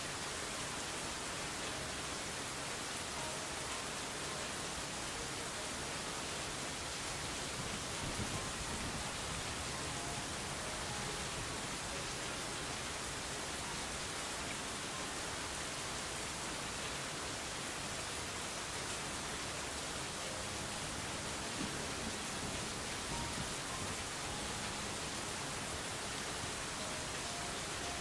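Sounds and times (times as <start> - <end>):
steady broadband hiss: 0.0 - 28.0.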